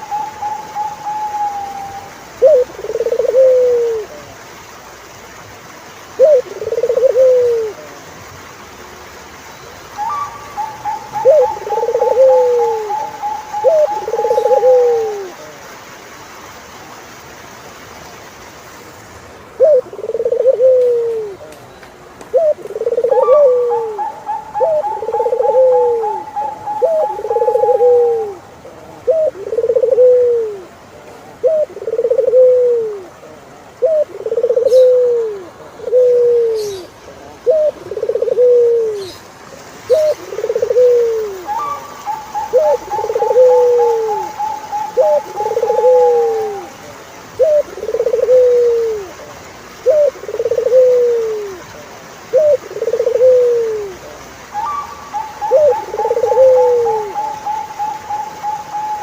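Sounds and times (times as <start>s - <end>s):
dove cooing: 0.0s - 4.4s, 6.2s - 8.0s, 10.0s - 15.6s, 19.5s - 21.5s, 22.3s - 39.2s, 39.8s - 59.0s.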